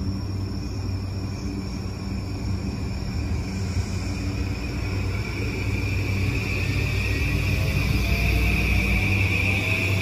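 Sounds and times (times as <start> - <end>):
electric train motor hum and whine: 0.0 - 10.0.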